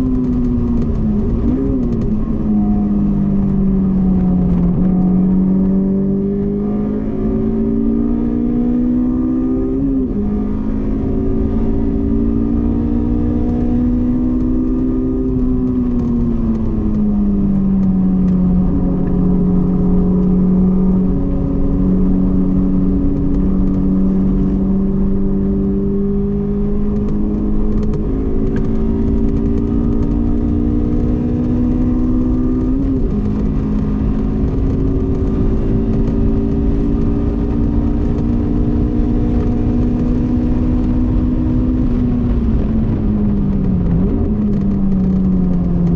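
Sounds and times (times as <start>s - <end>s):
car engine revving with upshifts: 0.0s - 45.9s.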